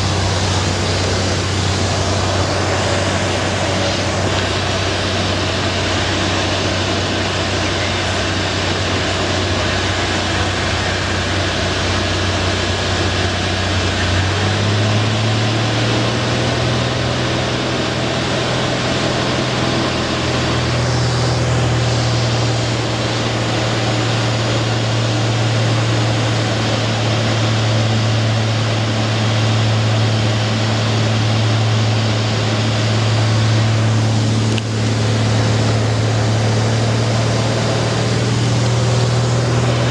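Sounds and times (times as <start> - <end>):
propeller engine droning: 0.0 - 39.9
rushing air noise: 0.0 - 39.9.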